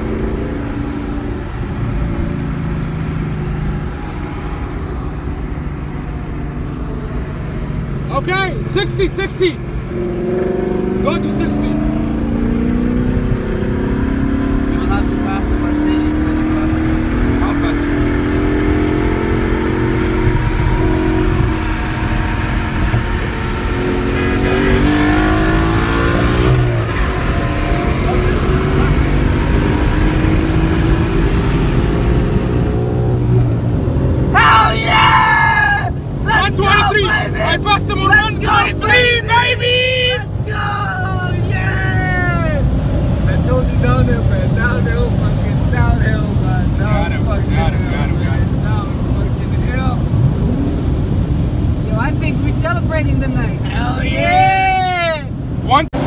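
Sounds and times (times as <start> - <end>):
car engine steady drone: 0.0 - 56.0
road noise: 0.0 - 56.0.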